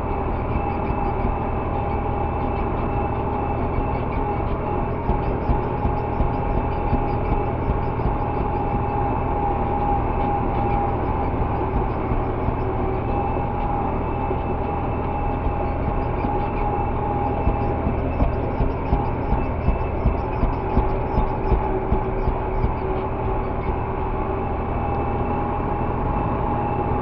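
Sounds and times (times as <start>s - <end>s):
steady whine: 0.0s - 27.0s
tractor engine running: 0.0s - 27.0s.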